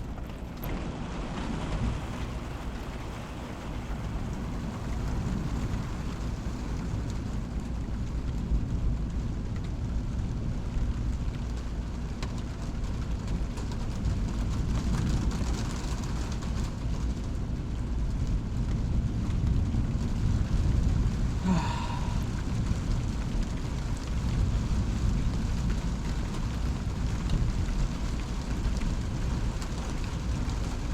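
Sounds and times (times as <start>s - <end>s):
rain falling: 0.0s - 30.9s
low rumble: 3.8s - 30.9s.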